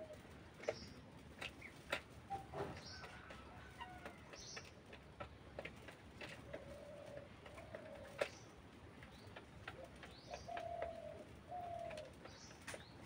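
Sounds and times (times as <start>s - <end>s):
chickens clicking softly: 0.0s - 13.0s.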